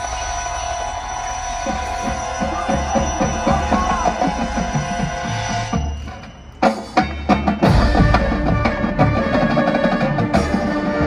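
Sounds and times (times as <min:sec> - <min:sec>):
drums: 0:00.0 - 0:11.0
marching band playing: 0:00.0 - 0:11.0.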